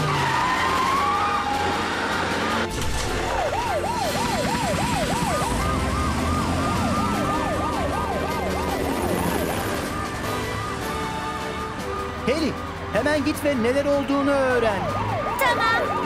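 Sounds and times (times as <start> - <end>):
higher siren: 0.0 - 12.0, 14.8 - 16.0
yelping siren: 0.0 - 12.0, 14.8 - 16.0.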